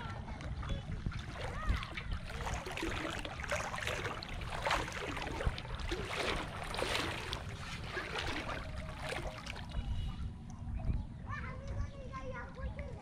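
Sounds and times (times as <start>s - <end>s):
water sloshing around legs: 0.0s - 10.9s.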